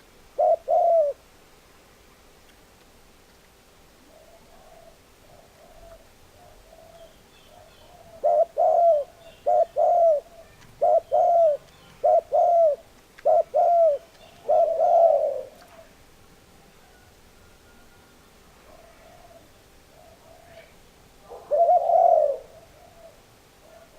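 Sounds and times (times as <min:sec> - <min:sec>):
dove cooing: 0:00.0 - 0:01.3, 0:04.0 - 0:16.0, 0:16.8 - 0:23.9.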